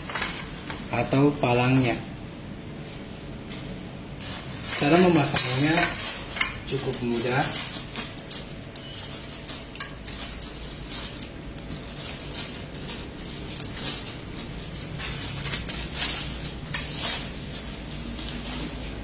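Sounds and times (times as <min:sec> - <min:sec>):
plastic wrap crinkling: 0:00.0 - 0:02.1, 0:04.1 - 0:19.0.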